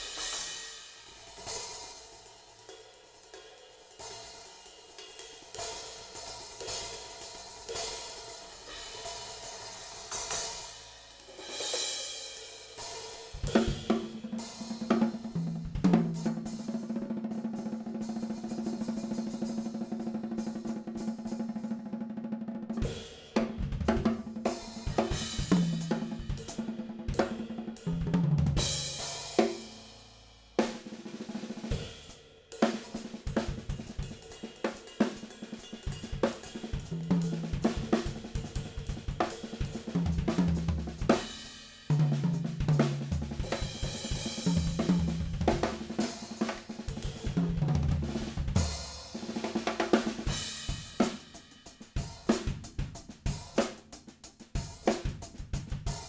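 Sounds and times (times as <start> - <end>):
drum kit playing: 0.0 - 2.7, 5.2 - 29.9, 30.5 - 56.0.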